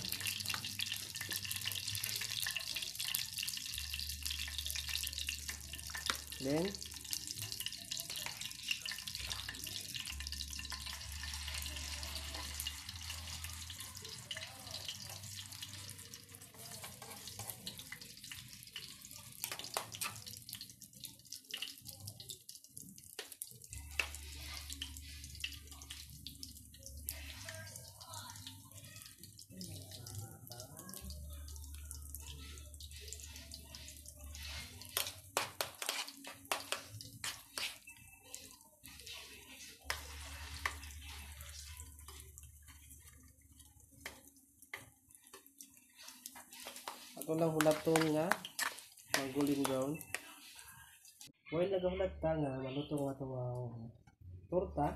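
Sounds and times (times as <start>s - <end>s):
mixture sizzling in hot oil: 0.0s - 51.3s.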